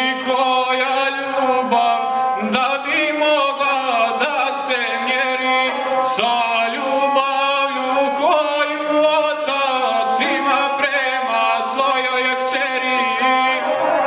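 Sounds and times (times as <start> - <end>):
bowed single-string fiddle: 0.0 - 14.0
man singing epic chant: 0.0 - 14.0.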